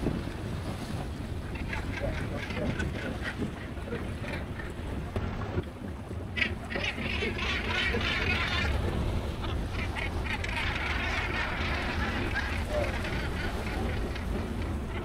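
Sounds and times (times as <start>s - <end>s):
low rumble of boat and wind: 0.0s - 15.0s
seabirds calling: 0.2s - 15.0s.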